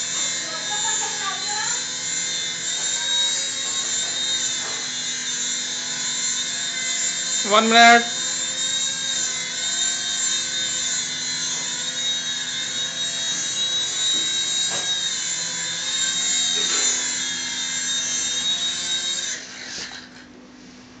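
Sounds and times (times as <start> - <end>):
toy helicopter motor whine: 0.0 - 20.4.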